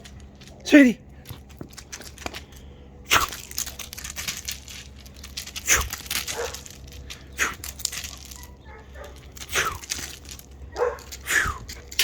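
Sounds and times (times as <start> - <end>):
dog paws scraping on gravel: 0.0 - 12.0.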